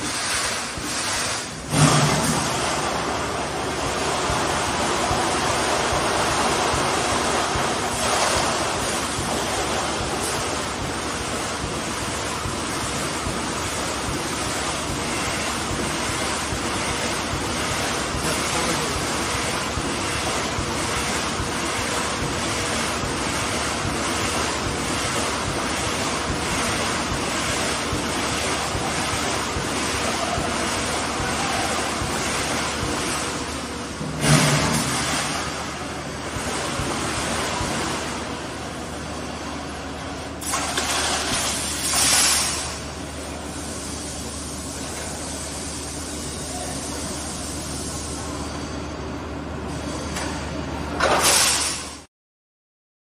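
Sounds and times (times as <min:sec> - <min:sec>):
welding machine roaring: 0:00.0 - 0:48.6.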